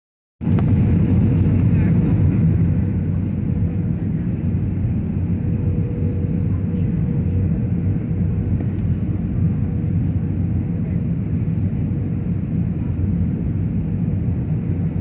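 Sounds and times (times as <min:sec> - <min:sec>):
aircraft cabin rumble: 0:00.4 - 0:15.0.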